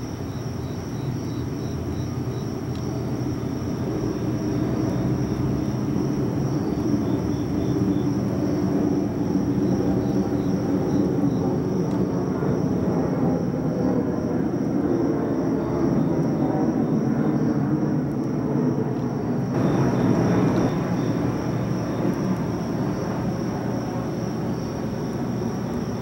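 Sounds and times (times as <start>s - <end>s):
distant low engine rumble: 0.0s - 18.6s, 19.5s - 26.0s
insects trilling: 0.0s - 26.0s.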